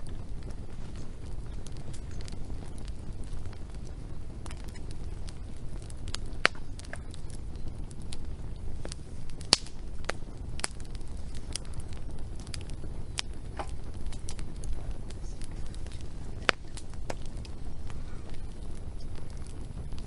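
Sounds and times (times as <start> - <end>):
fire low rumble: 0.0 - 20.0
wood fire popping and snapping: 0.0 - 20.0.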